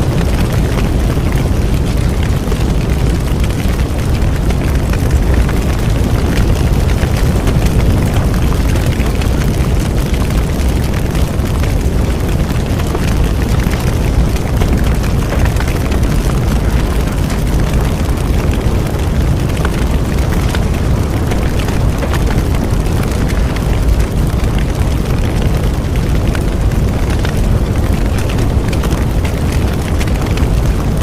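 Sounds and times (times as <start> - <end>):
bonfire rumbling: 0.0 - 31.0
fire crackling and popping: 0.0 - 31.0.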